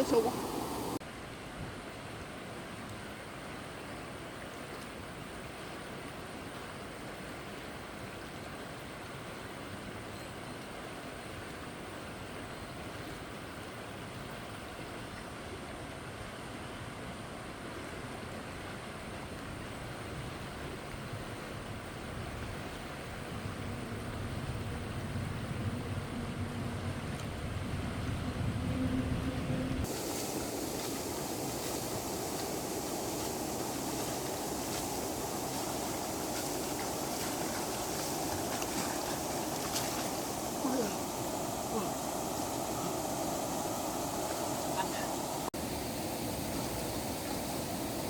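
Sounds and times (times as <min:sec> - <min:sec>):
stream water rushing over dam: 0:00.0 - 0:23.7, 0:29.8 - 0:48.0.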